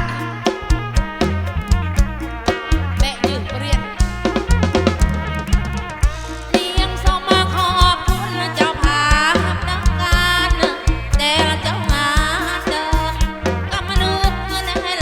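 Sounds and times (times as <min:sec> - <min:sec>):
bass guitar: 0:00.0 - 0:15.0
drum kit beat: 0:00.0 - 0:15.0.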